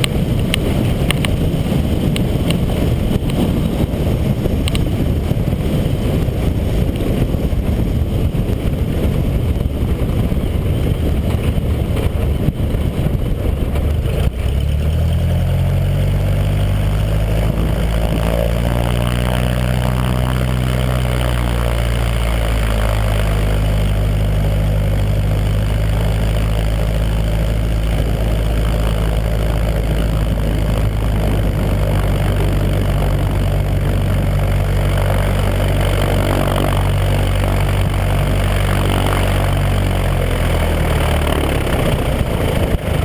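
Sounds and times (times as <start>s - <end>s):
propeller plane engine running: 0.0s - 43.0s.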